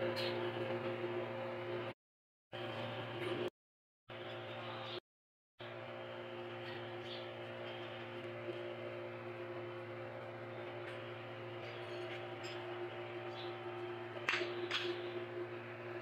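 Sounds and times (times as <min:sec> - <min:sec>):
steady mechanical hum: 0:00.0 - 0:02.0, 0:02.6 - 0:03.5, 0:04.1 - 0:05.0, 0:05.6 - 0:16.0.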